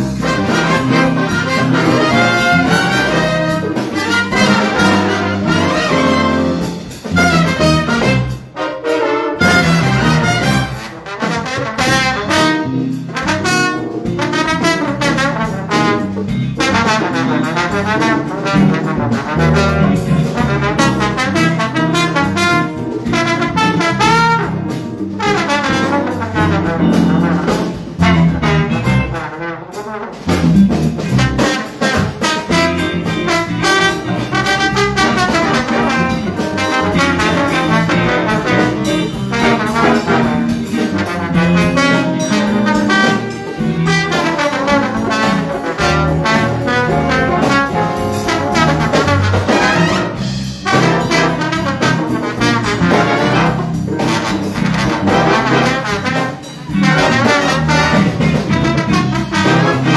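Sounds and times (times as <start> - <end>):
rhythm section: 0.0 - 59.9
trumpets and trombones: 0.0 - 59.9.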